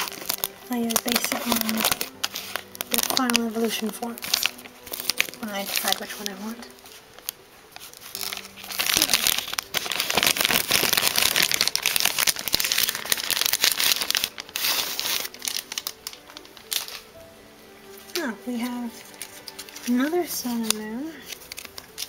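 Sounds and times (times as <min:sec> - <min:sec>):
plastic wrapping crinkling: 0:00.0 - 0:22.0.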